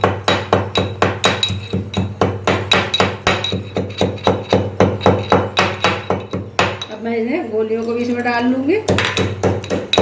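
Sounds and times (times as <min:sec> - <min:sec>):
pestle pounding in a mortar: 0:00.0 - 0:07.0, 0:08.8 - 0:10.0.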